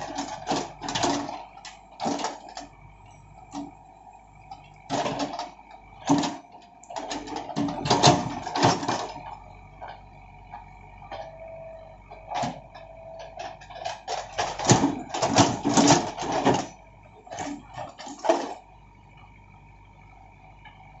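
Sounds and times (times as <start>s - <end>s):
backhoe engine running: 0.0s - 21.0s.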